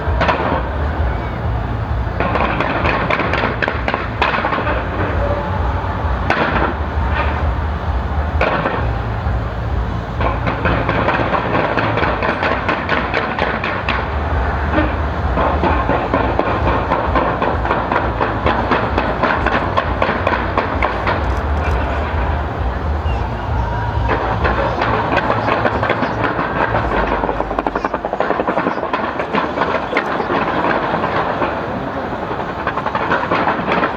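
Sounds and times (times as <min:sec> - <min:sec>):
low rumble: 0:00.0 - 0:29.2
fireworks bangs and crackles: 0:00.0 - 0:33.9.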